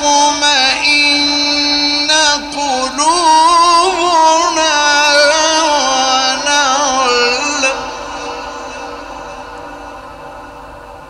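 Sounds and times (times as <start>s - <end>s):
man chanting melodically: 0.0s - 10.6s.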